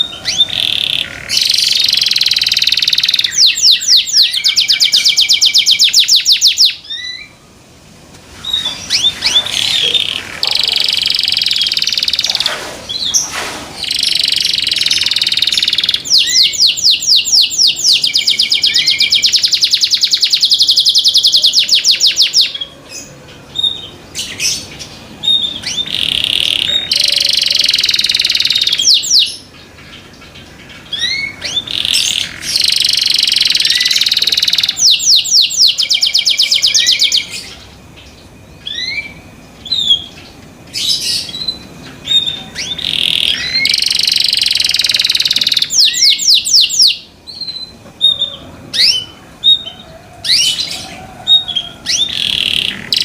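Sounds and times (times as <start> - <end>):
canary singing trills: 0.0 - 7.7, 8.3 - 53.0.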